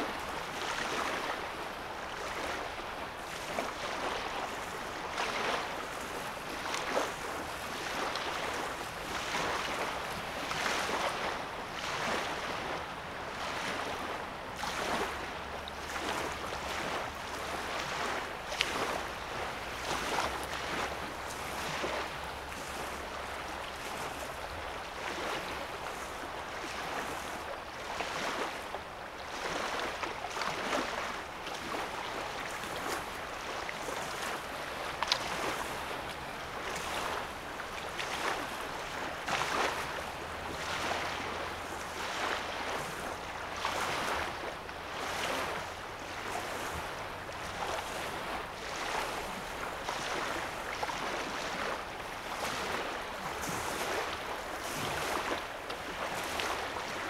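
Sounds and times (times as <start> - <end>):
lake waves lapping on sand: 0.0 - 57.0.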